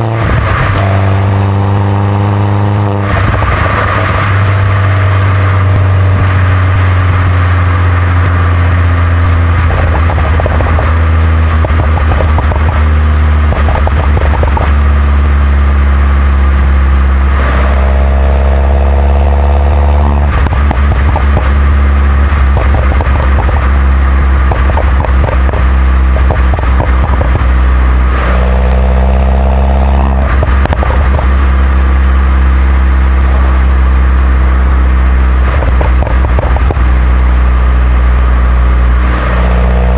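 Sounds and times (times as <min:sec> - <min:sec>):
car engine droning: 0:00.0 - 0:39.9
road noise hiss: 0:00.0 - 0:39.9.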